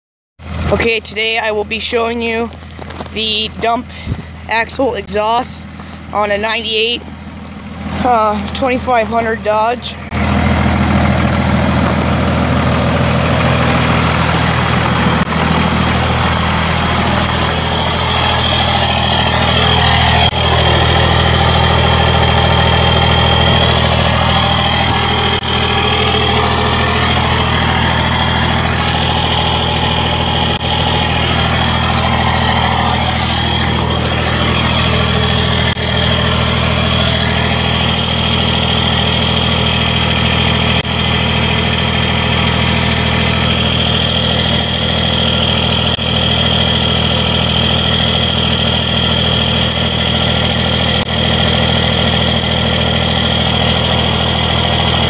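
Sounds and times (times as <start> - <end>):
diesel engine idling: 0.4 - 55.0.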